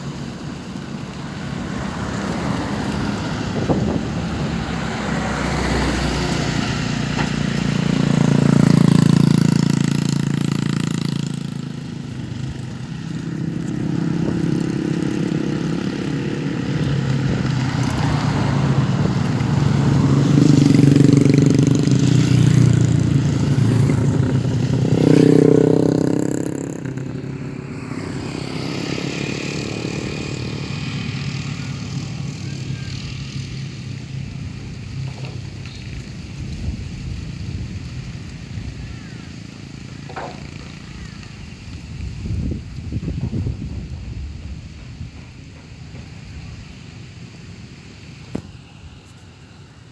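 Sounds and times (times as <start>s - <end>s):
motorcycle engine revving: 0.0s - 49.2s.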